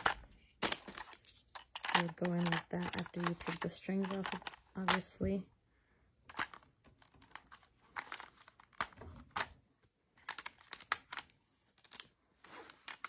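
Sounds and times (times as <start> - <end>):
plastic hair braider clicking and rattling: 0.0 - 5.2, 6.2 - 9.6, 10.2 - 13.0.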